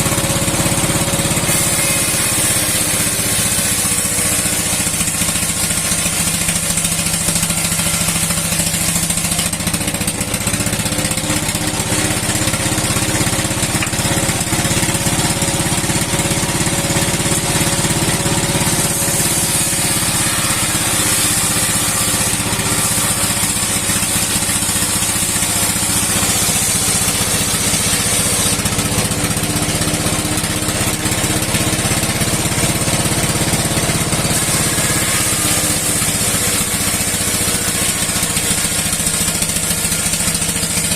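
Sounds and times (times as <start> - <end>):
old engine running: 0.0 - 40.9
saw blade splitting wood: 0.0 - 40.9.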